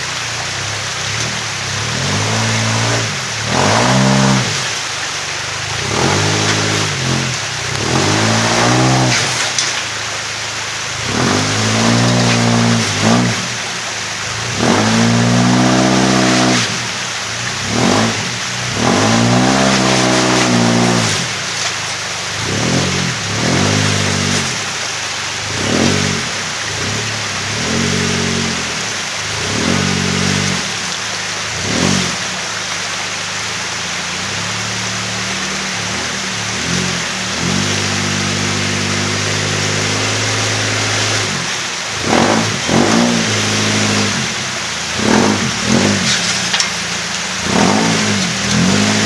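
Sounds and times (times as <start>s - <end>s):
engine revving in bursts: 0.0s - 5.0s, 5.6s - 9.8s, 10.8s - 32.8s, 34.4s - 49.0s.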